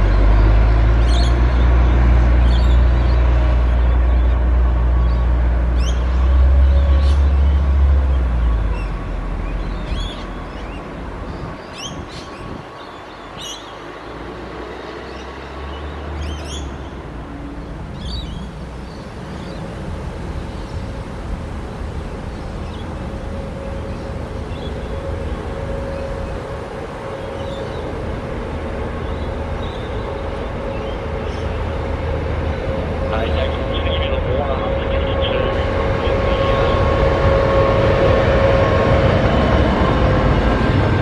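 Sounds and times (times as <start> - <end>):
birds chirping: 0.0 - 37.6
locomotive rumble: 0.0 - 41.0
track machine engine rumbling: 0.0 - 41.0.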